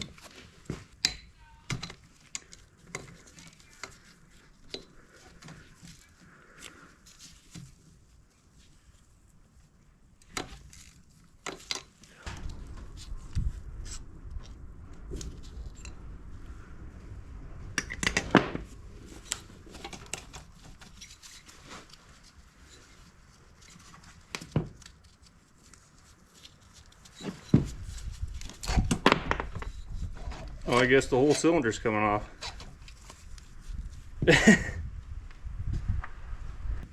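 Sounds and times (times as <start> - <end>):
low rumbling of parts handled: 0.0 - 36.9.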